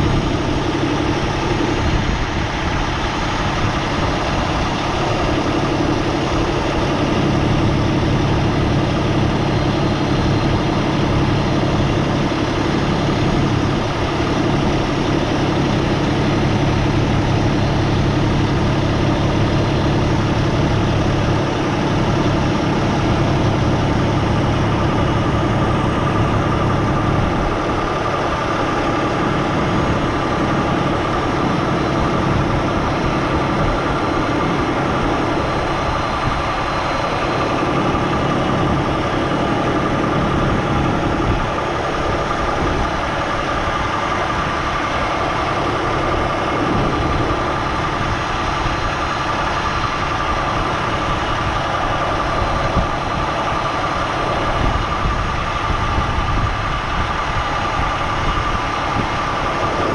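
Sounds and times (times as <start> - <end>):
diesel truck engine running: 0.0 - 59.9
faint steady whine: 0.0 - 59.9.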